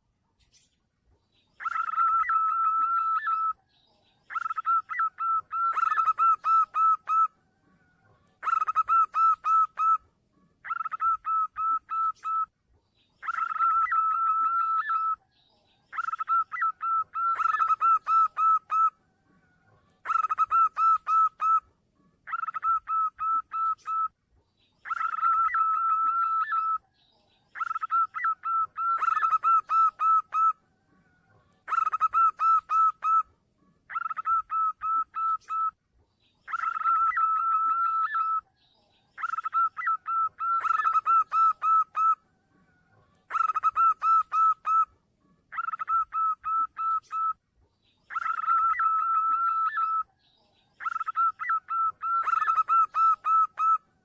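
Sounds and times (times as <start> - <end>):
dove cooing: 1.6 - 3.6, 4.3 - 12.5, 13.2 - 15.2, 15.9 - 24.1, 24.8 - 26.8, 27.5 - 35.8, 36.5 - 38.4, 39.2 - 44.9, 45.5 - 47.4, 48.1 - 50.1, 50.8 - 53.8.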